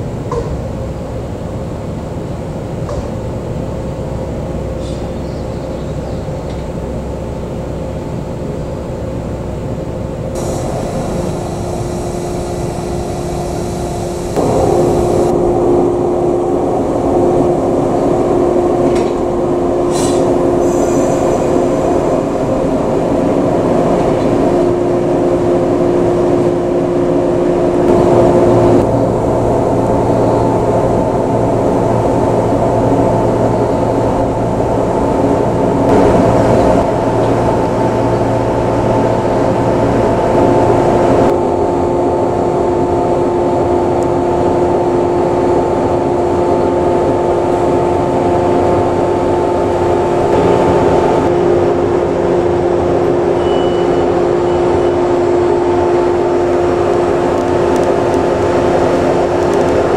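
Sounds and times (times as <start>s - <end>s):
electric train humming: 0.0s - 59.9s.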